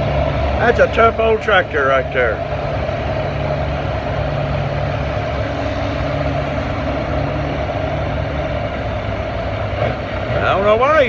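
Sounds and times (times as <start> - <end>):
pulling tractor engine running: 0.0 - 11.0.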